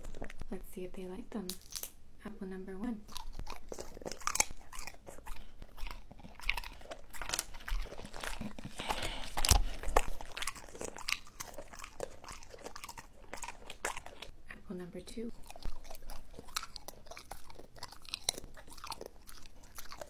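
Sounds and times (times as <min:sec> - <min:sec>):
dog crunching apple chip: 0:00.0 - 0:00.5, 0:01.5 - 0:02.0, 0:03.0 - 0:14.4, 0:15.2 - 0:20.0.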